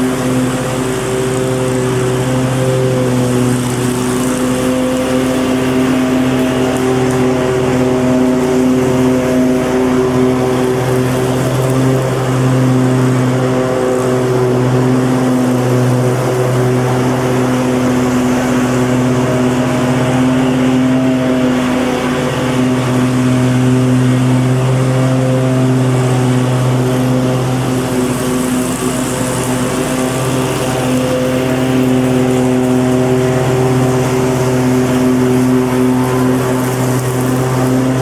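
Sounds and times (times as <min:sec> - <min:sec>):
lawn mower engine drone: 0:00.0 - 0:38.0.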